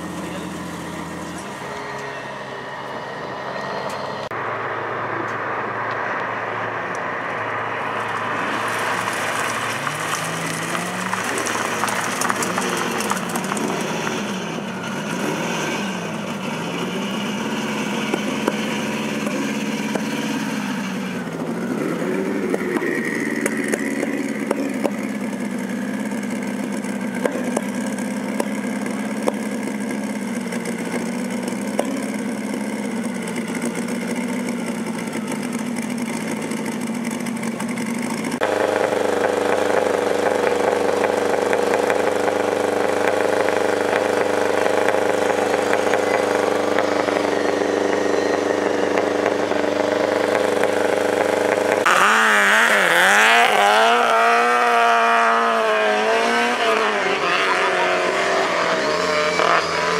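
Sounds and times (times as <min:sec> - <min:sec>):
louder car engine idling: 0:00.0 - 0:15.1, 0:16.0 - 0:51.9
turbocharged car engine idling: 0:00.0 - 0:51.9.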